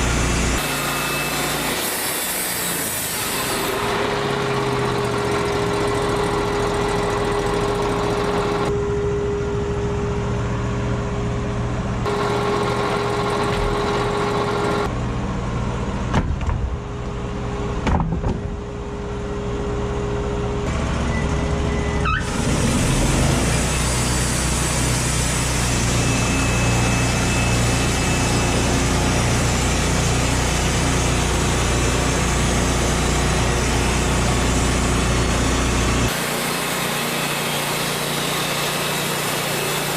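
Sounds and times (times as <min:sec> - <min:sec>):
engine running: 0:02.9 - 0:39.9.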